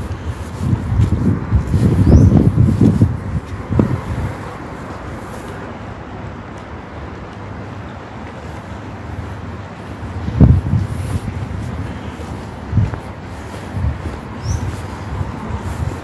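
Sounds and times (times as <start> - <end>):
distant city traffic rumble: 0.0 - 16.0
wind buffeting microphone: 0.0 - 16.0.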